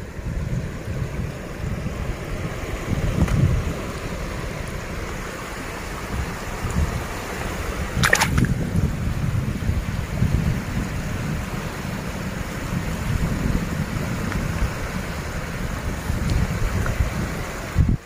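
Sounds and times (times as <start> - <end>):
shallow sea water washing: 0.0 - 17.8
wind rumbling on microphone: 0.0 - 18.0.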